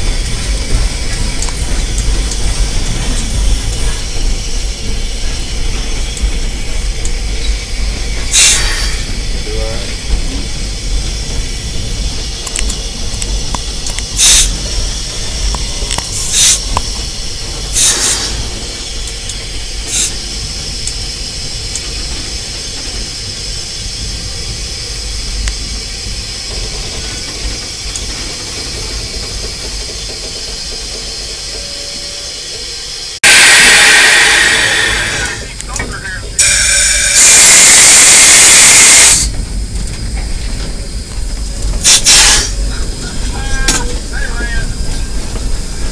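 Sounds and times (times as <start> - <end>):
loud rush of steam: 0.0 - 45.9
steam hissing: 0.0 - 45.9.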